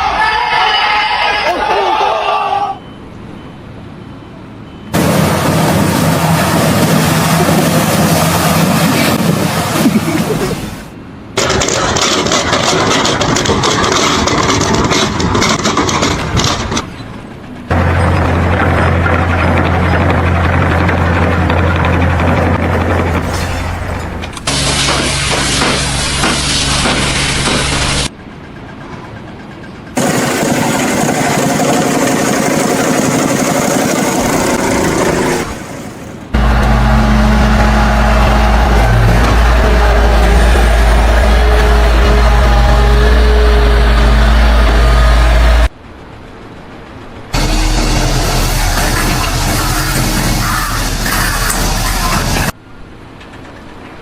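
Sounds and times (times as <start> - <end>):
engine running with clattering: 4.6 - 54.0.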